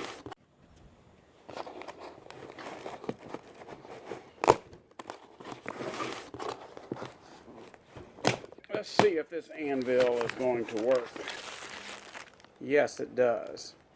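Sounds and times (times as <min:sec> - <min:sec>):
crinkling handling noise: 0:01.2 - 0:13.9.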